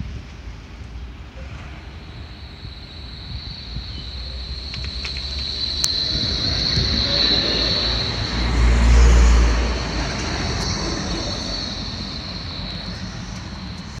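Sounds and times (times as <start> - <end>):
large vehicle rumble passing: 0.0 - 14.0
steady high whine: 0.5 - 14.0.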